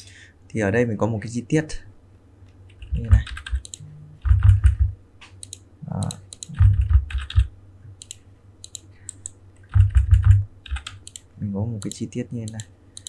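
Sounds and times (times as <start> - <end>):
keyboard and mouse clicks: 2.5 - 13.0.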